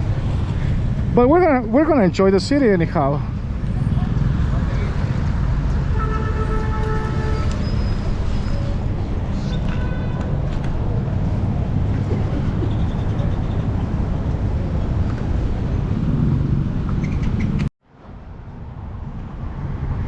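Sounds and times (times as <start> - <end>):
low rumble of traffic engines: 0.0 - 20.0.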